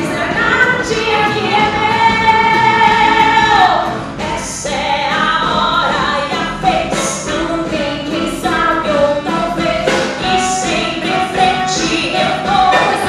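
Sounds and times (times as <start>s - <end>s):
live band playing: 0.0s - 13.0s
women singing into microphones: 0.0s - 13.0s.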